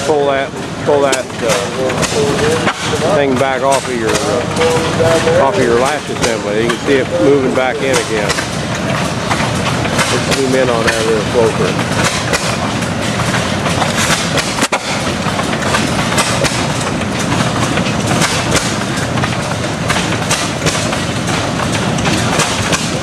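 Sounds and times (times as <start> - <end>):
hit-and-miss engine firing: 0.0 - 23.0.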